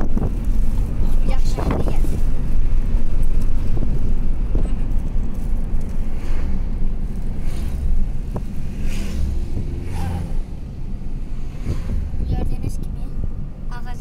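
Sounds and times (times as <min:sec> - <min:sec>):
whooshes of passing air: 0:00.0 - 0:13.5
car engine and road noise: 0:00.0 - 0:14.0.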